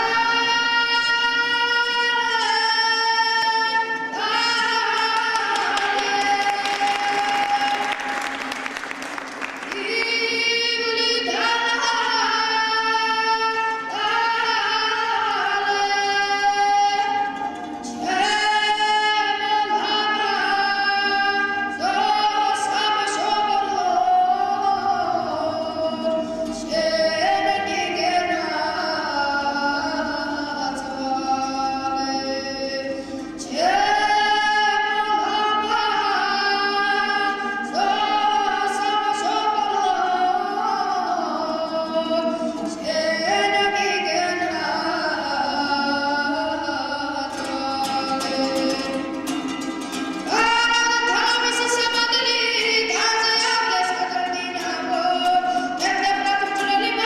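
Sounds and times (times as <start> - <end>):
boy singing: 0.0 - 8.6, 9.6 - 49.4, 50.0 - 57.0
lute strumming: 0.0 - 57.0.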